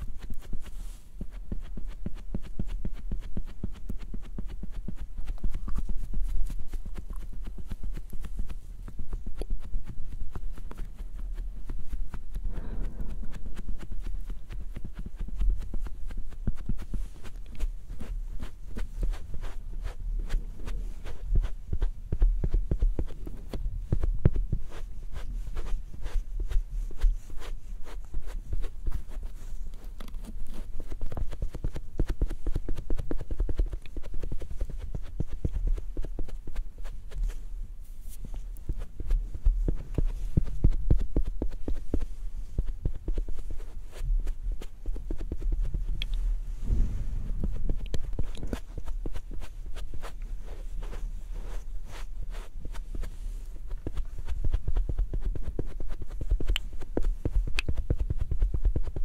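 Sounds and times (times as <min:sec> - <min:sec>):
makeup sponge tapping skin: 0:00.0 - 0:37.4, 0:38.1 - 0:46.2, 0:47.4 - 0:59.0.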